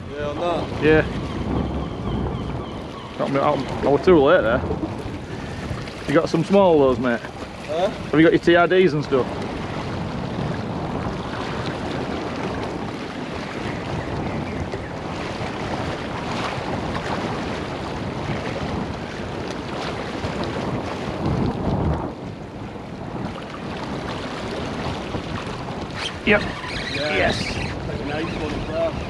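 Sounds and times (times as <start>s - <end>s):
wind blowing across microphone: 0.0s - 29.0s
sea washing against rocks: 3.2s - 29.0s.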